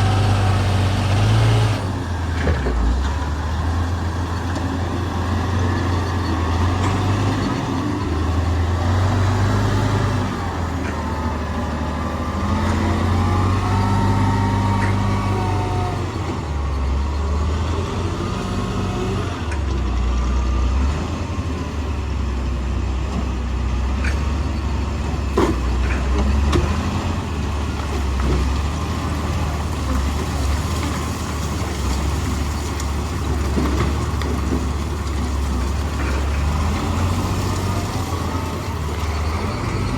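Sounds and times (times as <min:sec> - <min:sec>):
diesel machinery engine revving: 0:00.0 - 0:39.9.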